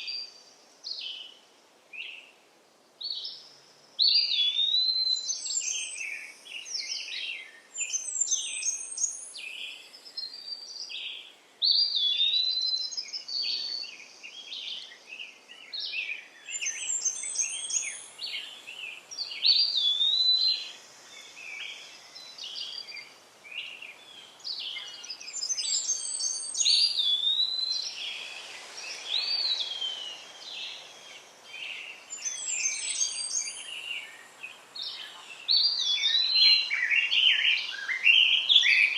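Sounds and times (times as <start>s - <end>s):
faint steady background hiss: 0.0s - 38.9s
songbirds singing and chirping: 0.0s - 38.9s.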